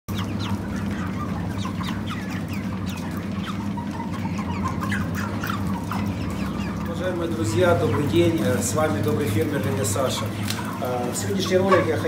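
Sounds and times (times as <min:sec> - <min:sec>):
chickens peeping and clucking: 0:00.1 - 0:12.0.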